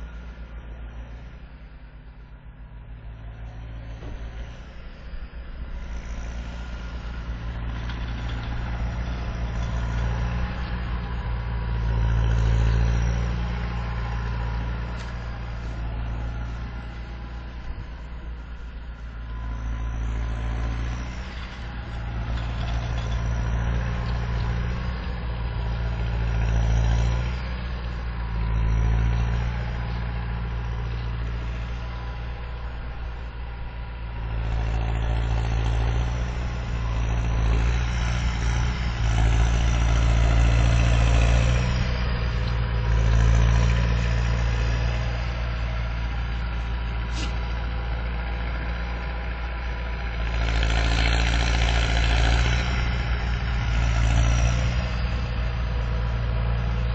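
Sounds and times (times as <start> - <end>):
tractor engine drone: 0.0 - 56.9.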